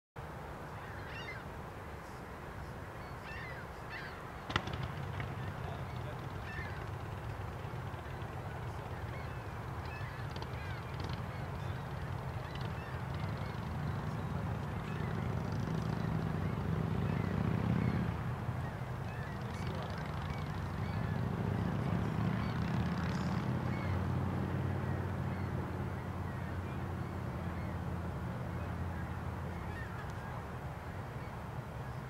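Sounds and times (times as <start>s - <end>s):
low outdoor rumble: 0.5s - 32.0s
birds chirping: 0.7s - 32.0s.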